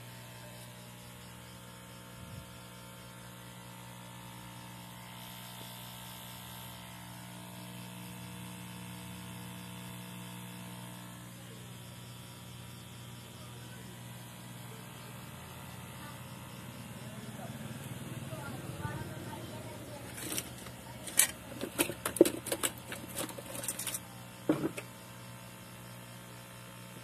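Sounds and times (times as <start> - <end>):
electrical hum and buzz: 0.0 - 27.0.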